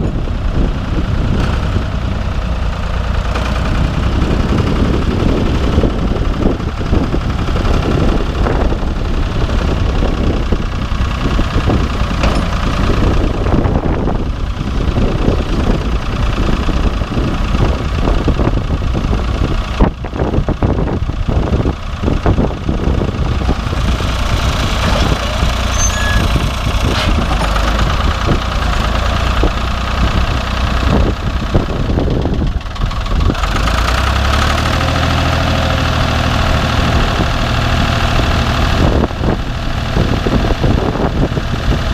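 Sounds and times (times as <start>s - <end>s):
diesel engine clattering: 0.0s - 41.9s.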